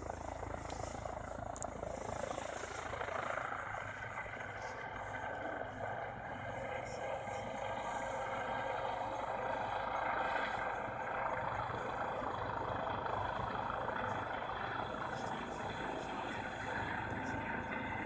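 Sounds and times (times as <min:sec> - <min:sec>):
steady mechanical drone: 0:00.0 - 0:18.0.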